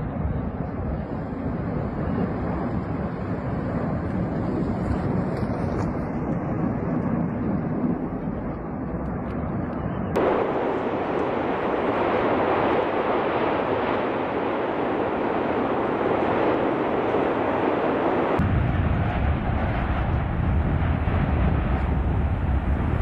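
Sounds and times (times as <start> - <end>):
volcano low rumble: 0.0 - 23.0
wind buffeting microphone: 0.0 - 23.0.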